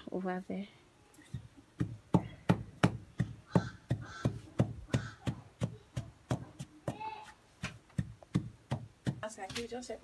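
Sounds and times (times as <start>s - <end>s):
wooden pestle pounding in mortar: 1.4s - 9.6s.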